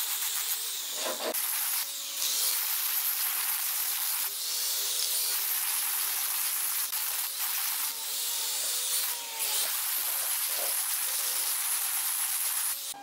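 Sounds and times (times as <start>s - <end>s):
angle grinder sanding wood: 0.0s - 13.0s.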